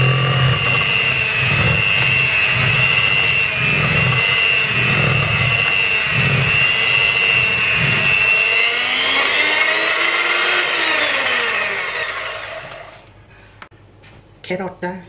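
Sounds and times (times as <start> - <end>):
electric hand mixer whirring: 0.0 - 13.1.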